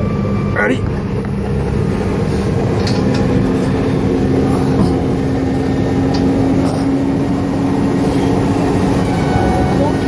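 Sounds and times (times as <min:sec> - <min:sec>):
heavy engine droning: 0:00.0 - 0:10.0.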